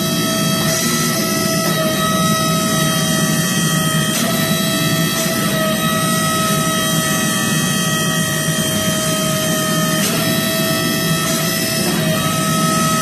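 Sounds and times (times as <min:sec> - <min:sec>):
factory machinery drone: 0:00.0 - 0:13.0.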